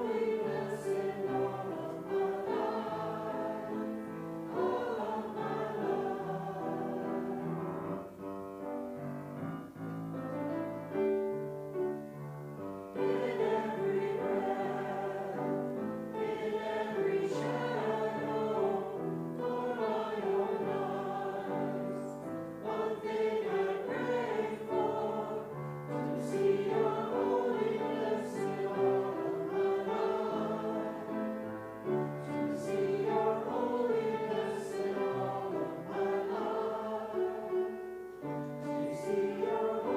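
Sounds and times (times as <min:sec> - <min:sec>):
congregation singing a hymn: 0:00.0 - 0:08.8, 0:12.6 - 0:39.9.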